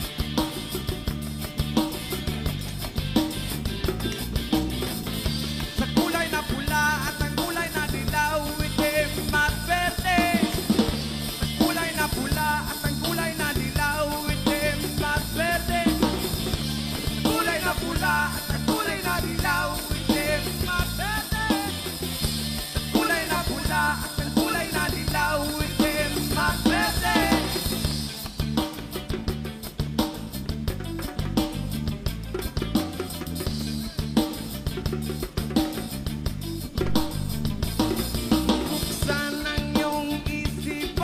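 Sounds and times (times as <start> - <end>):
song with singing and drums: 0.0 - 41.0.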